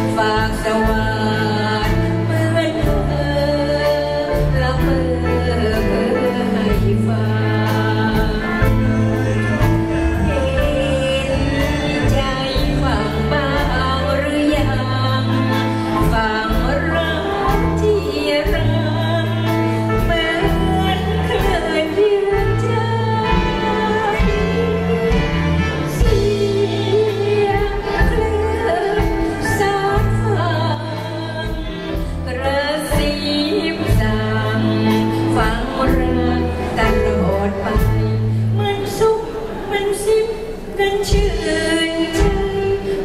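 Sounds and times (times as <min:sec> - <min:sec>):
bass: 0:00.0 - 0:43.0
drums: 0:00.0 - 0:43.0
violin: 0:00.0 - 0:43.0
woman singing into microphone: 0:00.0 - 0:43.0.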